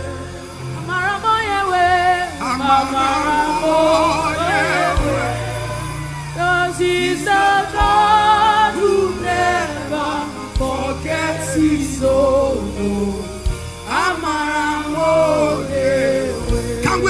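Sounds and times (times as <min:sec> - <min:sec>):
band playing: 0:00.0 - 0:17.0
voices singing gospel song: 0:00.0 - 0:17.0
low beat: 0:01.7 - 0:17.0.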